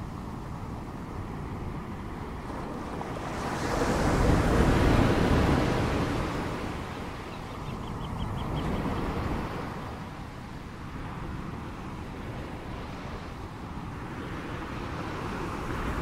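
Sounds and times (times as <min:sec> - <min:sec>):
ocean waves: 0:00.0 - 0:16.0.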